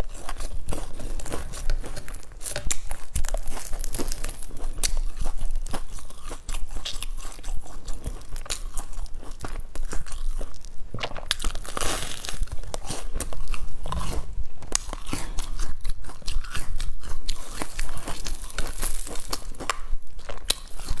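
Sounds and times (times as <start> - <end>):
crunchy bun biting and chewing: 0.0 - 21.0
crust crunching and crackling: 0.0 - 21.0
wet chewing: 0.0 - 21.0.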